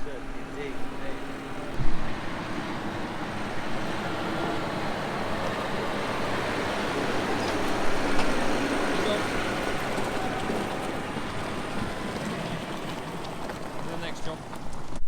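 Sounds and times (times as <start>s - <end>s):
tractor and baler running: 0.0s - 15.0s.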